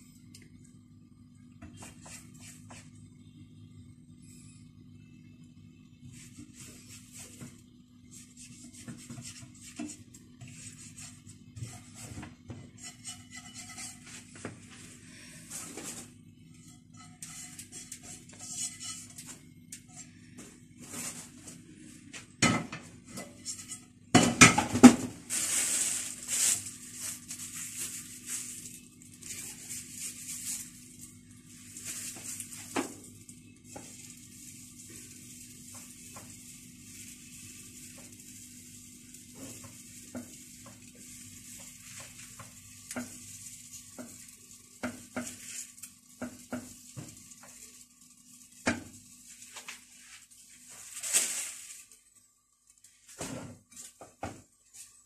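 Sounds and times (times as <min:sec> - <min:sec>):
steady low hum: 0:00.0 - 0:55.0
batter sizzling in pan: 0:05.5 - 0:55.0.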